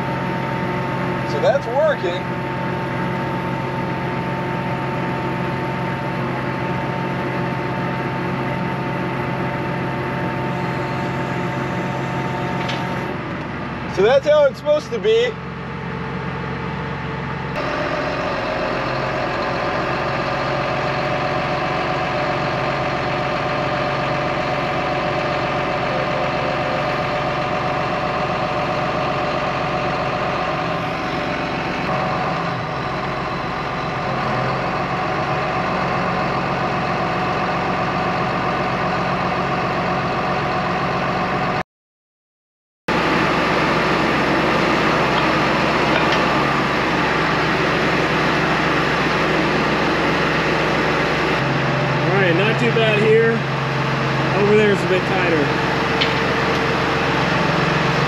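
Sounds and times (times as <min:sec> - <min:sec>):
hydraulic whine: 0:00.0 - 0:41.6, 0:42.9 - 0:58.0
tractor engine running: 0:00.0 - 0:41.6, 0:42.9 - 0:58.0.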